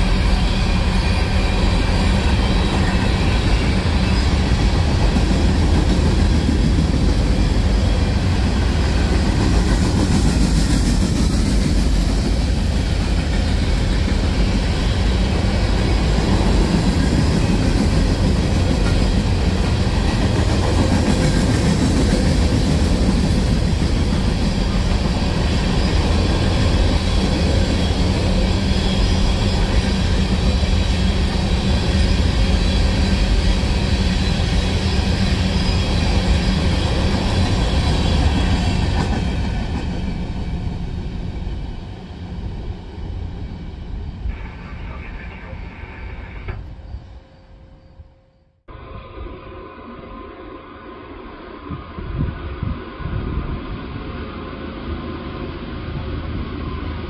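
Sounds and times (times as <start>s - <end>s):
train wheels on rail: 0.0s - 48.0s.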